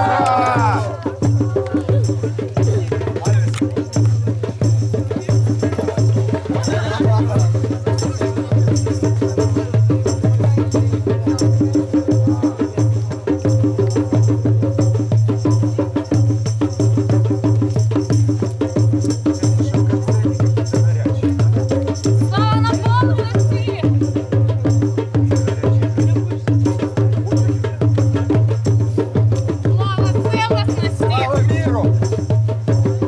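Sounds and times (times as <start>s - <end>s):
fast percussion: 0.0s - 33.0s.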